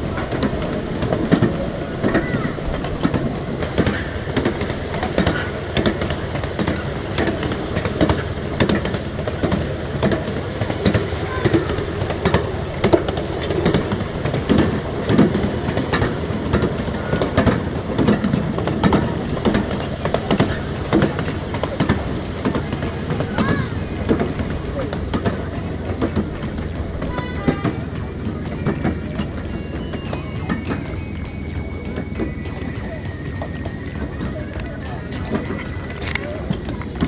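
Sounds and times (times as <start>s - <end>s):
miniature train rumbling: 0.0s - 37.0s
wheels clicking on rails: 0.0s - 37.0s.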